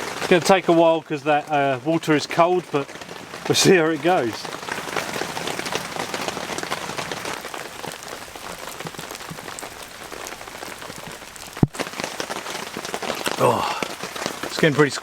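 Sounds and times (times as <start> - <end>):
heavy rain on tent fabric: 0.0 - 15.0.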